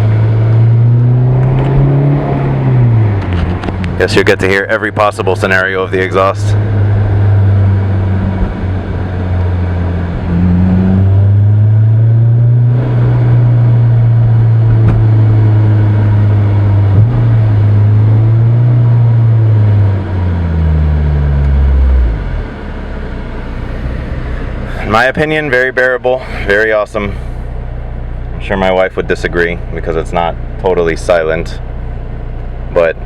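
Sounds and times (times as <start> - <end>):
car engine cruising heard from cabin: 0.0 - 33.0.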